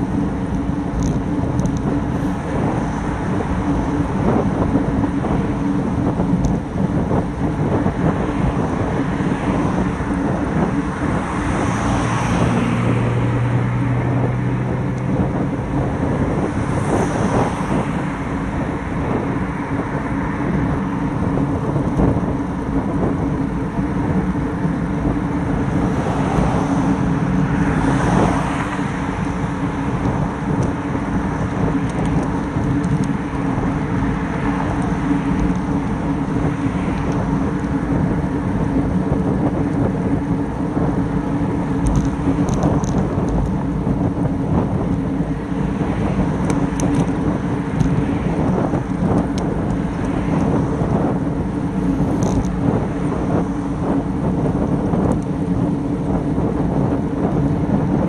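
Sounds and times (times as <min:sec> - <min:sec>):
cars passing: 0:00.0 - 0:58.0
tyre hum on asphalt: 0:00.0 - 0:58.0
wind buffeting microphone: 0:00.0 - 0:58.0.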